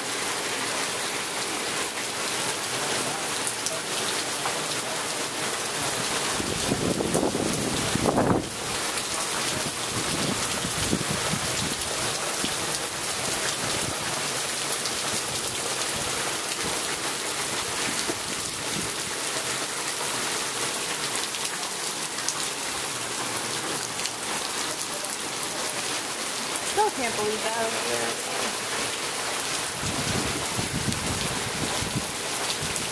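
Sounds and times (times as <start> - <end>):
heavy rain on pavement: 0.0 - 32.9.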